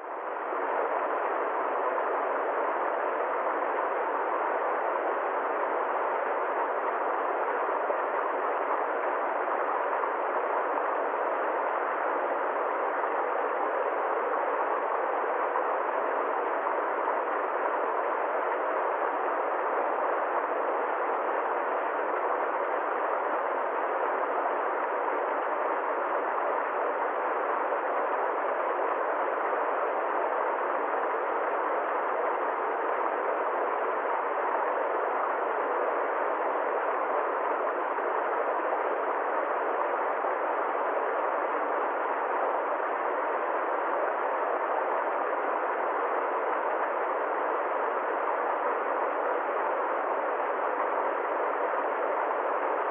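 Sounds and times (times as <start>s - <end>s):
steady rushing noise: 0.0s - 52.9s.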